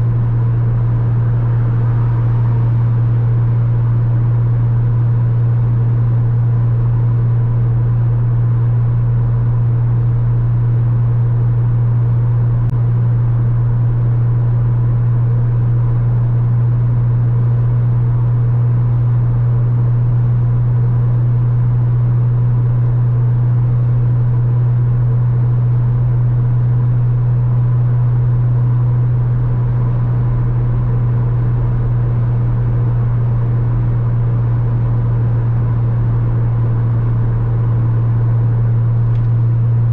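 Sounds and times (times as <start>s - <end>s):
car engine humming: 0.0s - 17.8s, 18.7s - 39.9s
road rumble: 0.0s - 39.9s.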